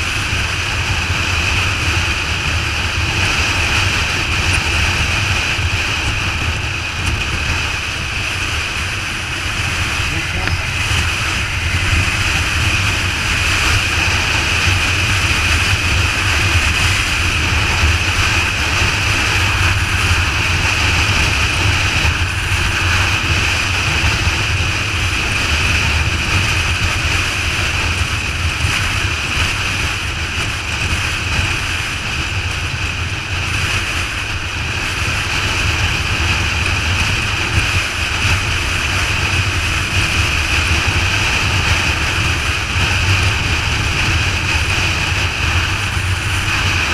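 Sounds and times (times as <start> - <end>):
engine and road noise drone: 0.0 - 46.9
wind rushing over microphone: 0.0 - 46.9.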